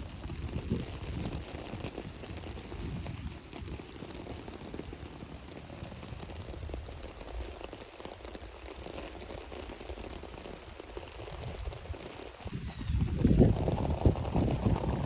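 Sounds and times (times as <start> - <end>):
raindrop ticks: 0.0 - 15.0
steady rain hiss: 0.0 - 15.0.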